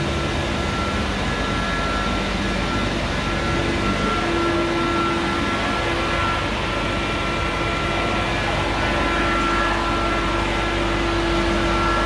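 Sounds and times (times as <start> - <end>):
constant rushing noise: 0.0 - 12.0
high steady machine whine: 0.0 - 12.0
low steady machine tone: 0.0 - 12.0.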